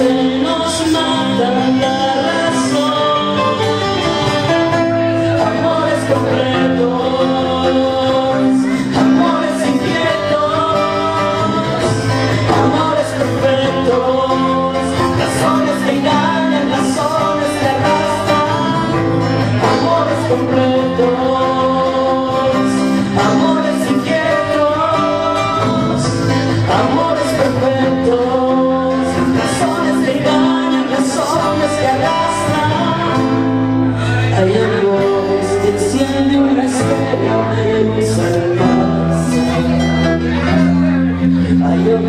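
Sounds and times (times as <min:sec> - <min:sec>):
bass guitar: 0:00.0 - 0:42.0
man singing: 0:00.0 - 0:42.0
strummed acoustic guitars: 0:00.0 - 0:42.0.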